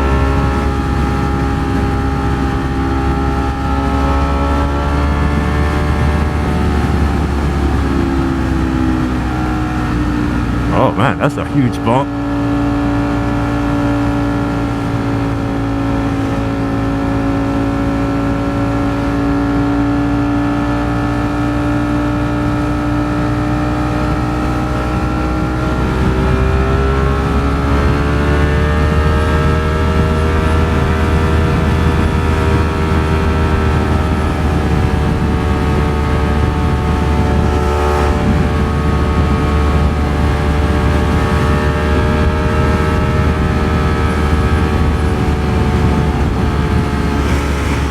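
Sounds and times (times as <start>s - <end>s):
wind rush on microphone: 0.0s - 10.8s, 12.1s - 47.9s
motorcycle engine cruising: 0.0s - 10.9s, 12.1s - 47.9s.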